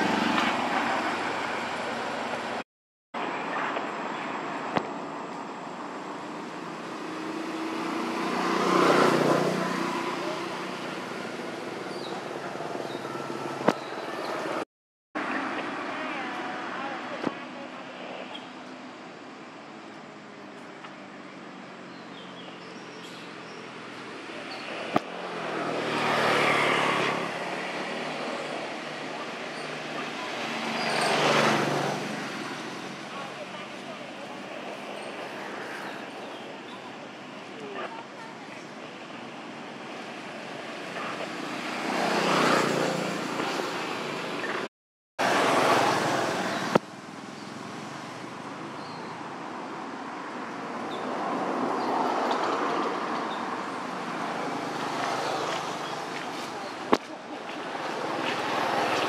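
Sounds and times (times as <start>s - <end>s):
motor vehicles passing: 0.0s - 2.6s, 6.0s - 14.6s, 19.6s - 59.0s
outdoor background noise: 0.0s - 59.0s.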